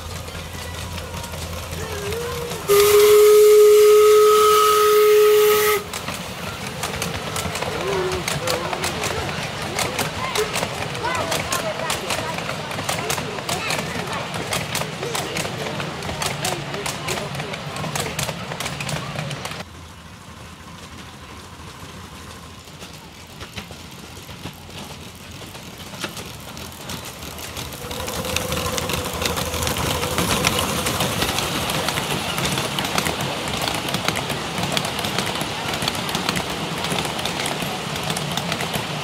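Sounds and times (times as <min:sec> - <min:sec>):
passengers' voices: 0:00.0 - 0:19.7, 0:20.7 - 0:39.0
train wheels clicking on rails: 0:00.0 - 0:39.0.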